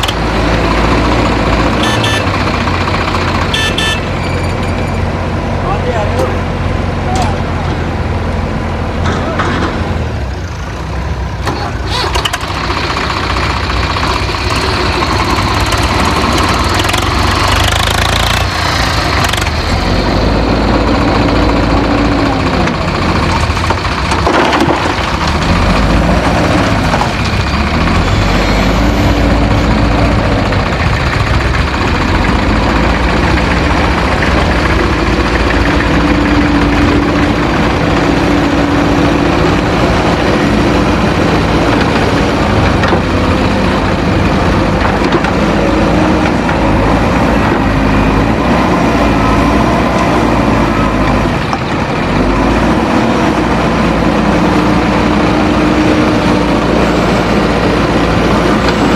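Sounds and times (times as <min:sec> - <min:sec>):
diesel machinery engine revving: 0:00.0 - 0:58.9.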